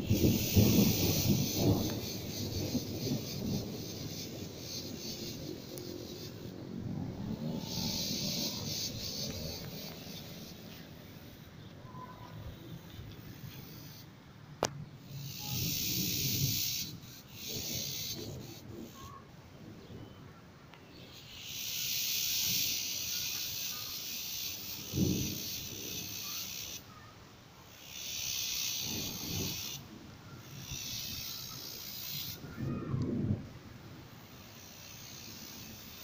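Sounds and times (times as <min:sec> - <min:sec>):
high hiss: 0:00.0 - 0:20.2, 0:20.8 - 0:36.0
low rumbles of wind: 0:00.0 - 0:36.0.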